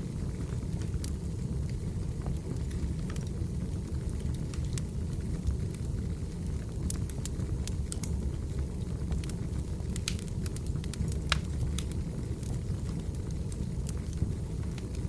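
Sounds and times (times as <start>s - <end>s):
fire low rumble: 0.0s - 15.0s
firewood pops and crackles: 0.3s - 15.0s.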